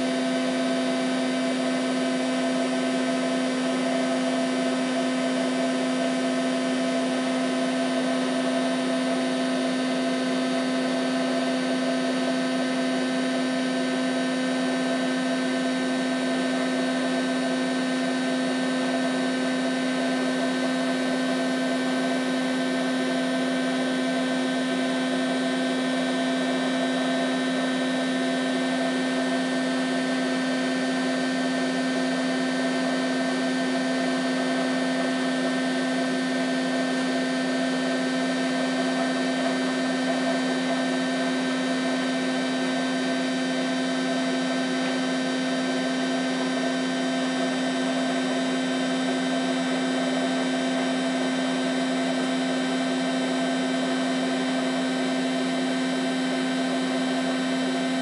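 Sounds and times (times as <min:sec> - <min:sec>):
washing machine spin whine: 0:00.0 - 0:58.0.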